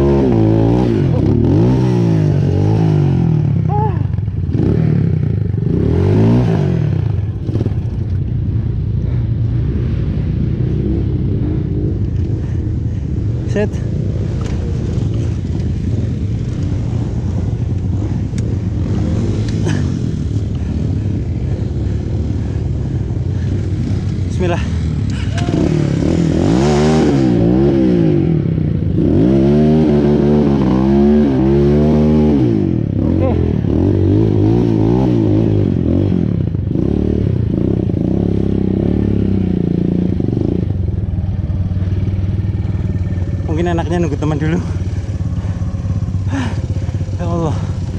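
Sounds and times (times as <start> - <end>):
motorcycle engine running: 0.0 - 47.9
road noise rumble: 0.0 - 47.9.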